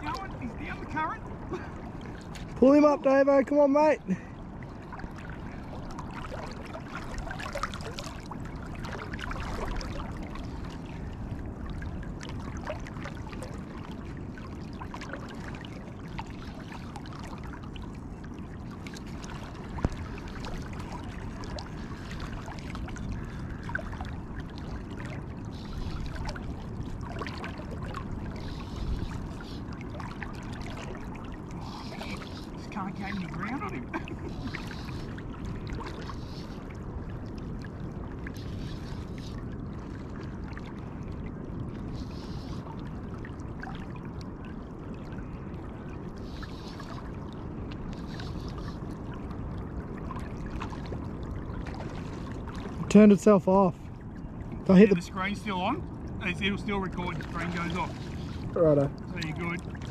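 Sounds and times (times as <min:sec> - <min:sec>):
water trickling and lapping: 0:00.0 - 0:59.9.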